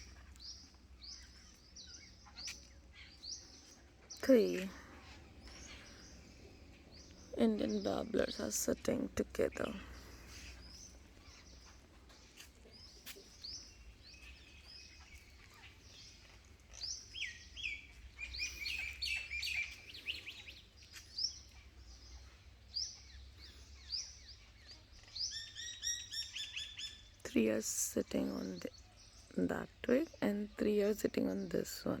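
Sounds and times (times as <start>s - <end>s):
birds chirping and chattering: 0.0s - 32.0s.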